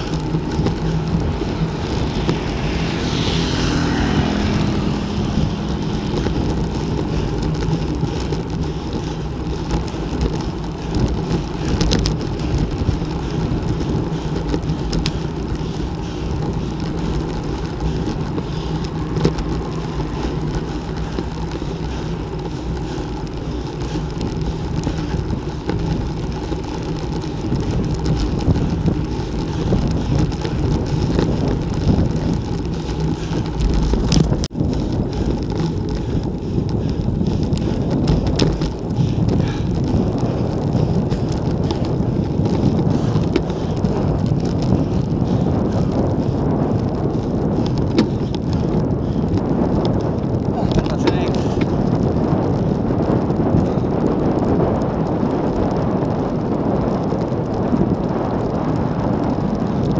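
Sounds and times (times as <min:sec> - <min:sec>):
bike tyres on concrete road: 0:00.0 - 0:59.9
wind rush on microphone: 0:00.0 - 0:59.9.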